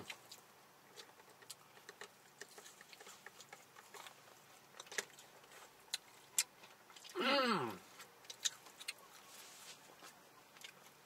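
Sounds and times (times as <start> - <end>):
chewing with lip smacks: 0.0 - 7.2, 7.8 - 11.0.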